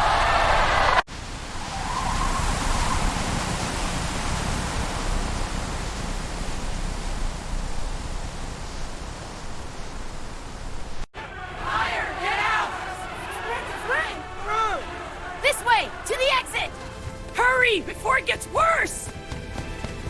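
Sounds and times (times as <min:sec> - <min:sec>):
steady rushing noise: 0:00.5 - 0:20.0.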